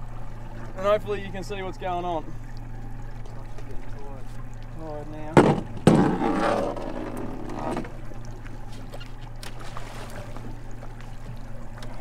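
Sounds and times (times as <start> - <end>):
boat engine idling: 0.0 - 12.0
splashing water: 0.0 - 12.0
water sloshing against hull: 0.0 - 12.0.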